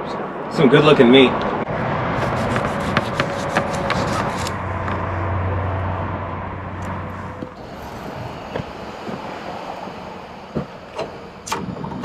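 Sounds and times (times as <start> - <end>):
steady low hum: 1.7 - 12.0.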